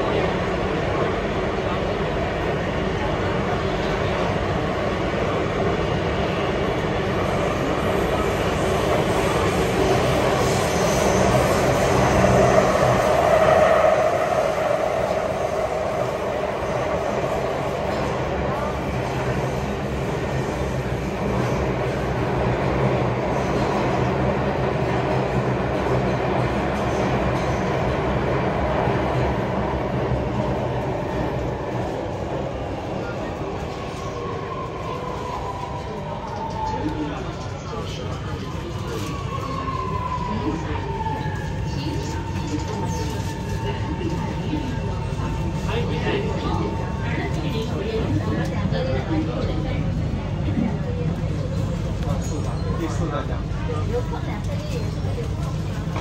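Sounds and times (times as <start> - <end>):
train wheels roaring on rails: 0.0 - 56.0.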